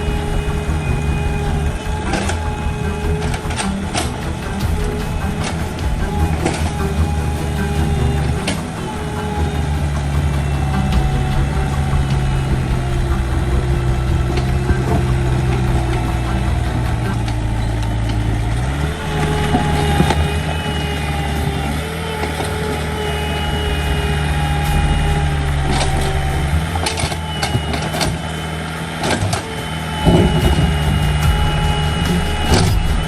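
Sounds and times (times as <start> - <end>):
excavator diesel engine running: 0.0 - 33.0
thin whine: 0.0 - 33.0.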